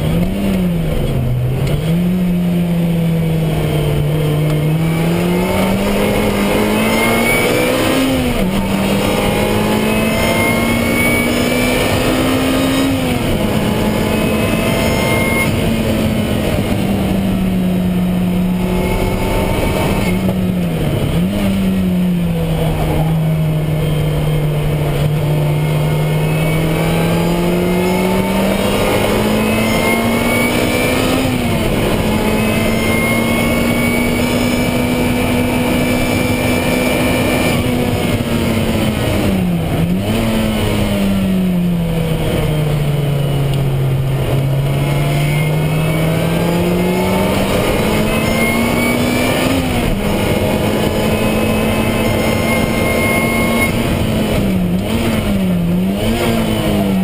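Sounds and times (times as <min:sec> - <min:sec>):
car engine revving hard: 0:00.0 - 0:57.0
road and wind noise: 0:00.0 - 0:57.0
downshift engine blip: 0:04.3 - 0:40.2, 0:43.4 - 0:55.4.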